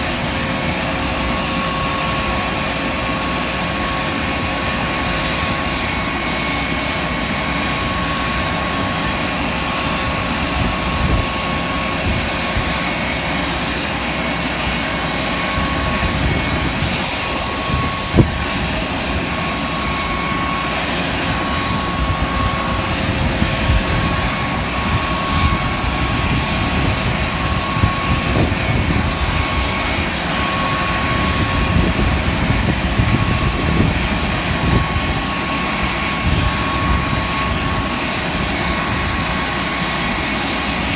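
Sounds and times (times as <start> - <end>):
jet engine whine: 0.0 - 40.9.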